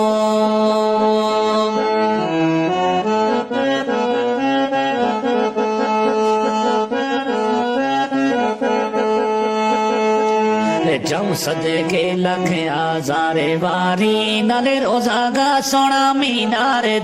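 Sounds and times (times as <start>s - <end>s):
instrumental folk melody: 0.0s - 17.0s.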